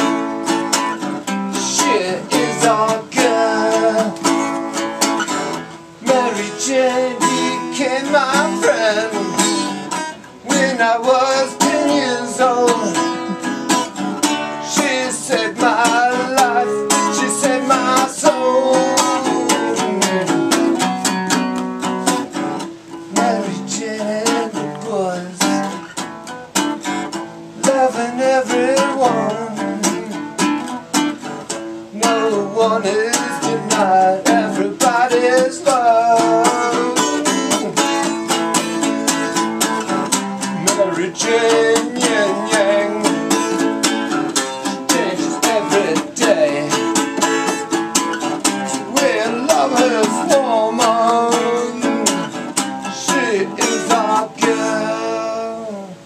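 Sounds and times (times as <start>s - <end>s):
guitar strummed fast and hard: 0.0s - 55.8s
person singing with wailing voice: 1.6s - 4.6s, 5.9s - 20.7s, 23.1s - 25.8s, 27.6s - 30.3s, 31.8s - 39.5s, 40.4s - 47.6s, 48.7s - 56.0s.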